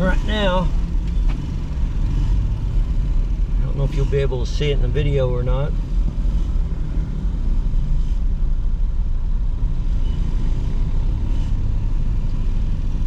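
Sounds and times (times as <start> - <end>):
car engine and road noise inside cabin: 0.0 - 13.0.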